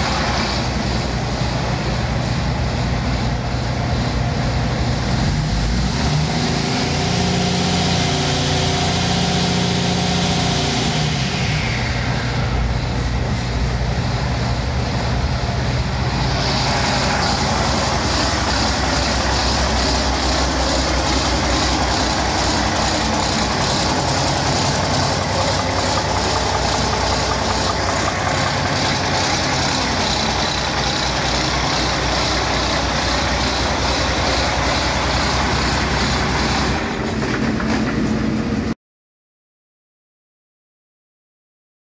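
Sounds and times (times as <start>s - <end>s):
diesel engine running: 0.0s - 38.8s.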